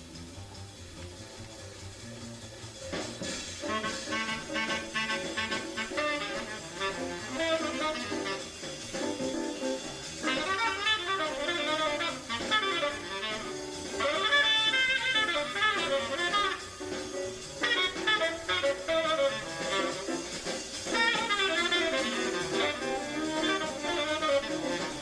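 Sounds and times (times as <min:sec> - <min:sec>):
jazz rhythm section: 0:00.0 - 0:25.0
tenor saxophone improvising: 0:00.5 - 0:25.0.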